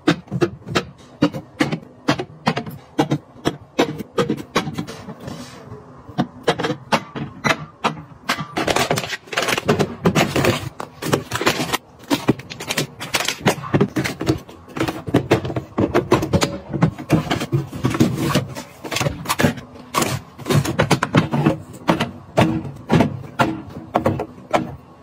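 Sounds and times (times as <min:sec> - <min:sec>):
plastic containers handled: 0:00.0 - 0:25.0.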